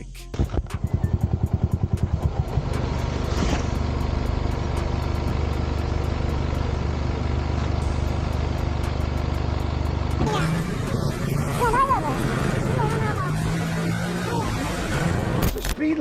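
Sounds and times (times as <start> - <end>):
vehicle engine droning: 0.4 - 15.6.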